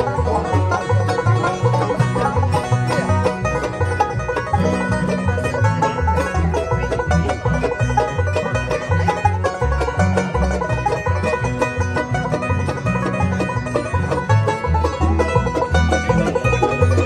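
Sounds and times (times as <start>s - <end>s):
banjo picking: 0.0s - 17.0s
other string instruments: 0.0s - 17.0s
upright bass line: 0.0s - 17.0s.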